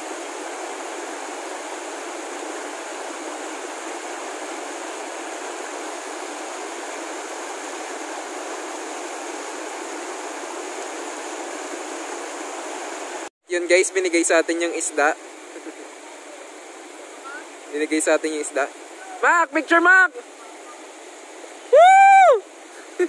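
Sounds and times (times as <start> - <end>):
river flowing over rocks: 0.0 - 13.3, 14.1 - 23.0.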